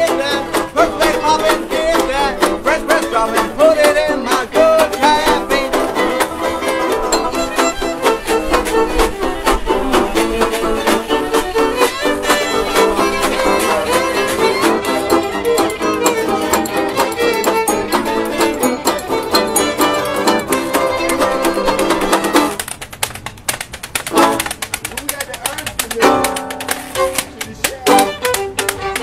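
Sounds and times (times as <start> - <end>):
fiddle playing lead: 0.0 - 29.0
resonator guitar: 0.0 - 29.0
washboard scraping rhythm: 0.0 - 29.0.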